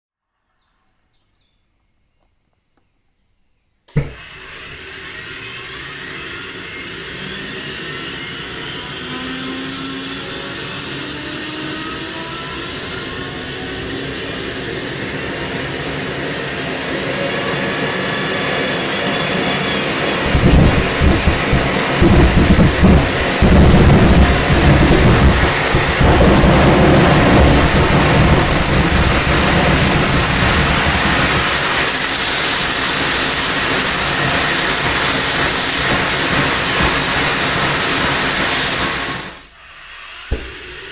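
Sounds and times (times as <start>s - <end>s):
electric starter motor whine: 3.9s - 40.9s
model jet engine roar: 3.9s - 40.9s.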